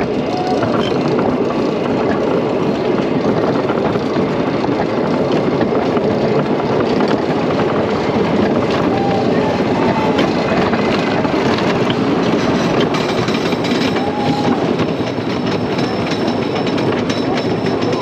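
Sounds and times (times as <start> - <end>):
clicks and rattles of track: 0.0 - 18.0
roller coaster wheels rumbling: 0.0 - 18.0.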